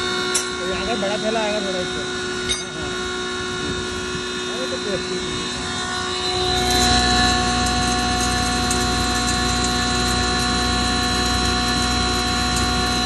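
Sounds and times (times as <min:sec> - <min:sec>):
grinder machine running: 0:00.0 - 0:13.0.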